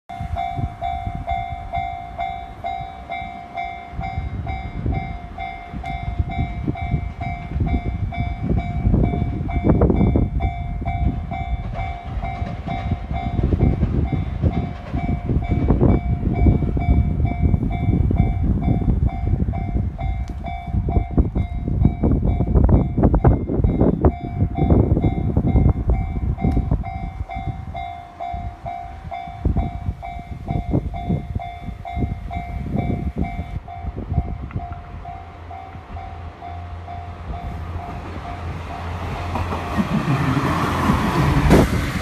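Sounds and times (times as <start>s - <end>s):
diesel railcar rumbling: 0.1s - 42.0s.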